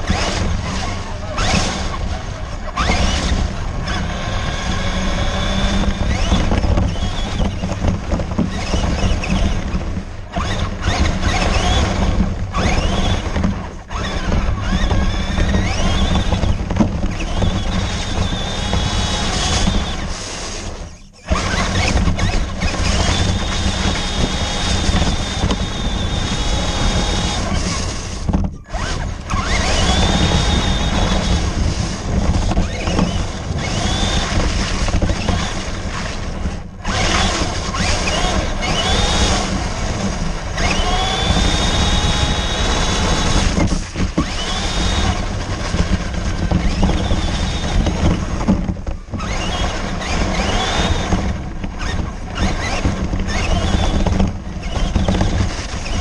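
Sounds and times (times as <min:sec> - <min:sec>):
toy car motor whining: 0:00.0 - 0:56.0.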